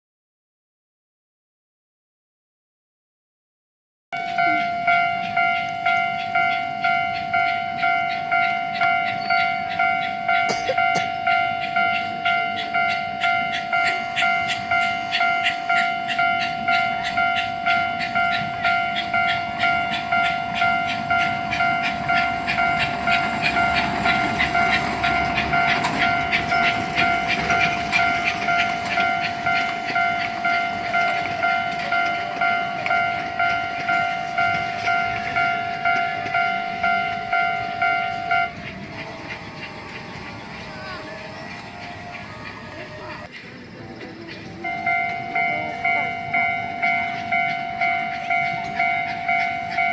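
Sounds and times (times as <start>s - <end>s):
level-crossing bell ringing: 4.2s - 43.3s, 44.4s - 49.9s
miniature train running: 4.2s - 49.9s.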